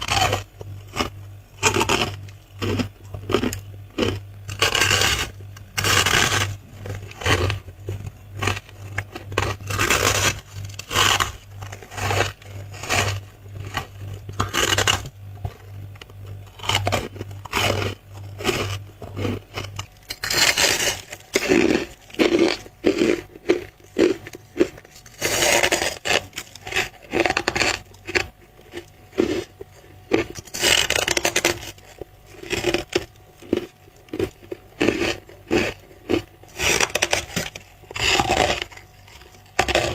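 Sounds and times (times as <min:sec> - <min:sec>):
chewing crunchy frost: 0:00.0 - 0:39.9
low steady hum: 0:00.0 - 0:39.9.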